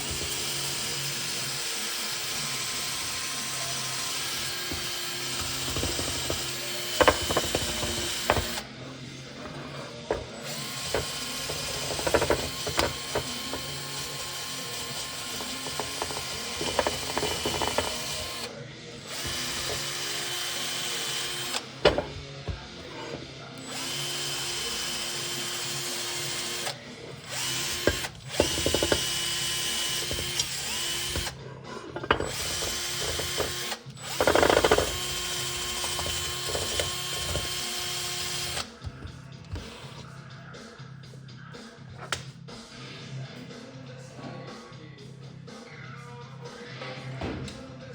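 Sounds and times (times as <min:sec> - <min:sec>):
power tool whining: 0:00.0 - 0:40.1.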